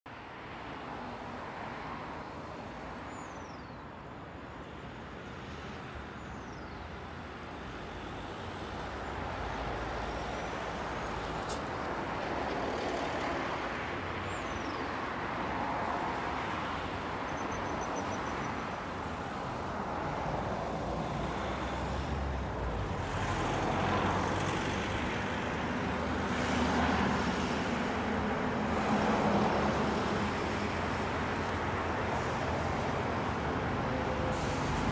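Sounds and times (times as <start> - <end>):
road traffic noise: 0.1 - 34.9.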